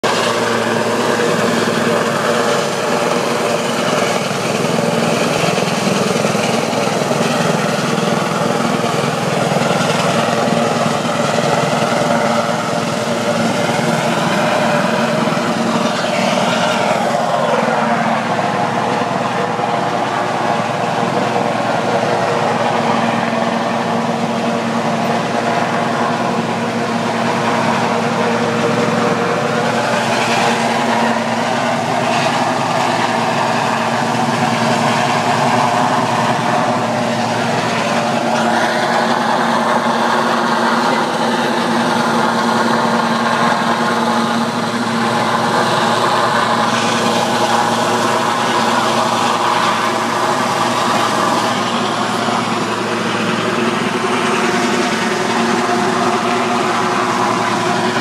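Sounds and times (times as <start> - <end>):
helicopter rotor drone: 0.0 - 58.0.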